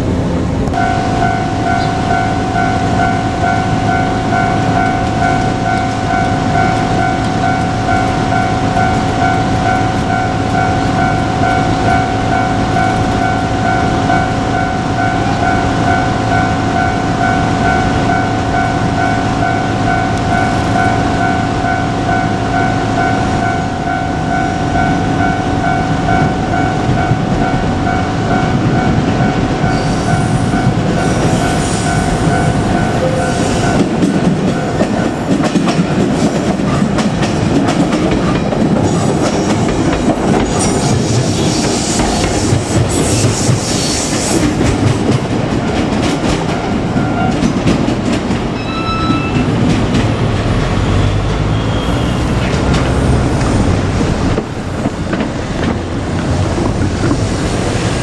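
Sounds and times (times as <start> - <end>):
level crossing warning bell: 0.7 - 41.4, 45.7 - 52.8
train wheels clattering: 0.7 - 58.0.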